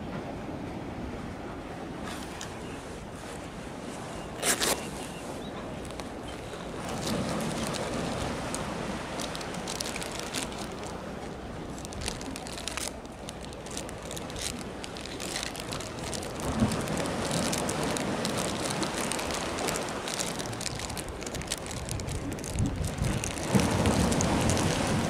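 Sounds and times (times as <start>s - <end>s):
hiss of wind and water: 0.0s - 25.0s
small crackles and clicks: 4.4s - 25.0s.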